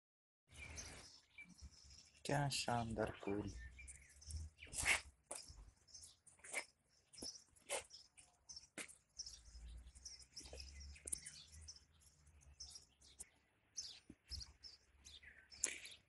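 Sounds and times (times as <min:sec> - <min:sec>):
faint birds chirping: 0:00.5 - 0:16.0.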